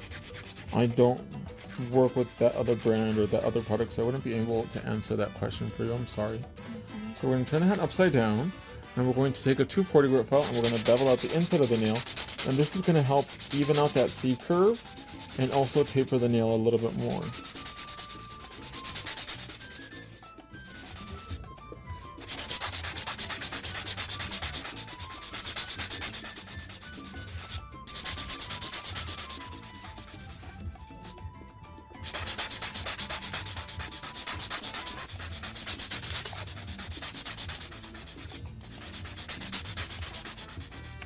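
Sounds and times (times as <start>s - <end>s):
nail file sanding: 0.0s - 4.8s, 10.4s - 21.4s, 22.1s - 31.2s, 32.0s - 41.0s.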